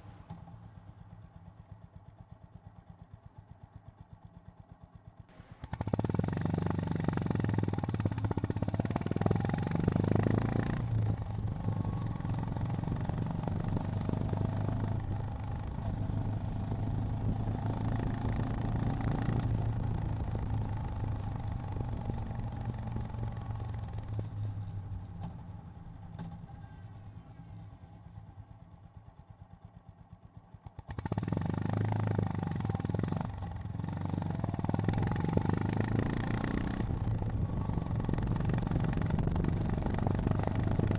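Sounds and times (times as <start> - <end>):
motorcycle engine running: 0.2 - 40.9.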